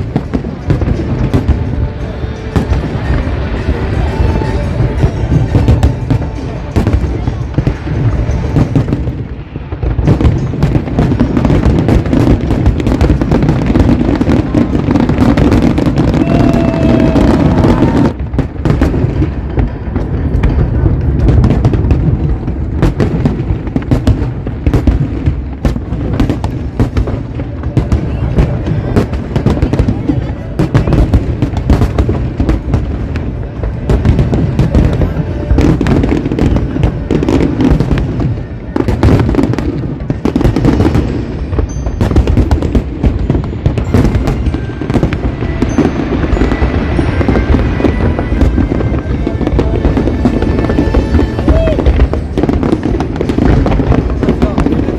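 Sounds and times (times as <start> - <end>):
music playing: 0.0 - 21.2, 25.9 - 54.9
fireworks bangs and booms: 0.0 - 54.9.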